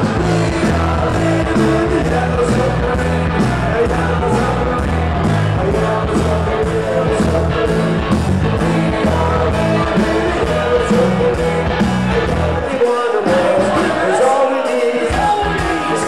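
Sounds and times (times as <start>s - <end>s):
live rock and roll band: 0.0s - 16.0s
person singing: 0.0s - 16.0s.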